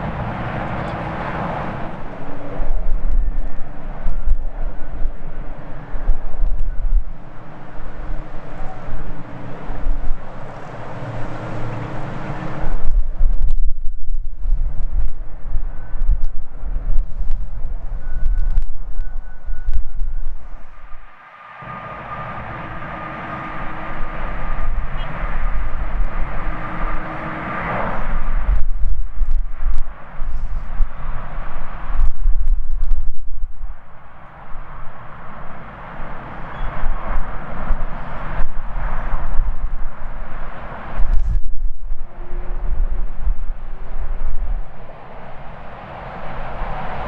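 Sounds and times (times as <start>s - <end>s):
jet engine roaring: 0.0s - 13.4s, 14.6s - 47.0s
wind buffeting microphone: 0.0s - 47.0s.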